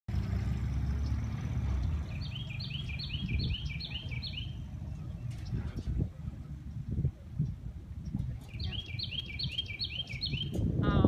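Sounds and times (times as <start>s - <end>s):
songbird singing: 0.1s - 11.0s.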